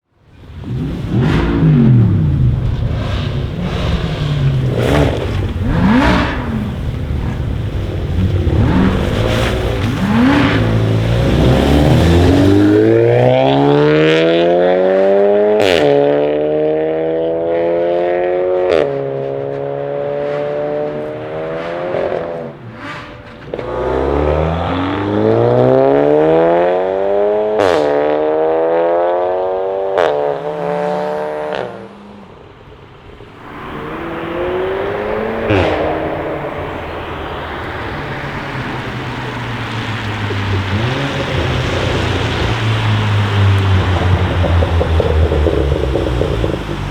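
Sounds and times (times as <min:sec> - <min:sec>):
car engine accelerating: 0:00.2 - 0:46.9
exhaust crack: 0:00.3 - 0:46.9.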